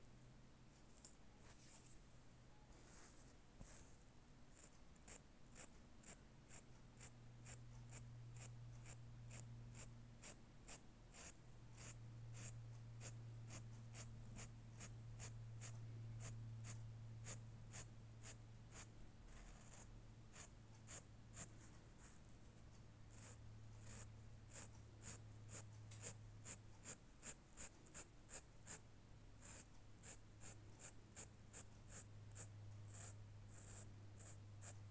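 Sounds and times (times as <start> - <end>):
marker scratching on fabric: 2.8 - 34.9.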